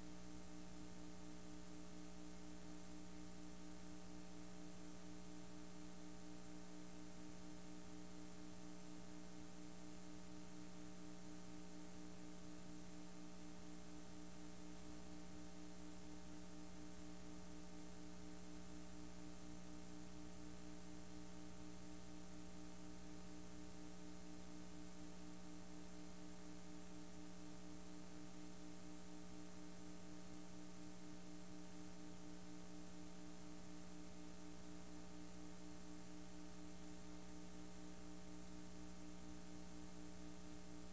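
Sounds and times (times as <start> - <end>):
faint electrical hum: 0.0 - 40.9.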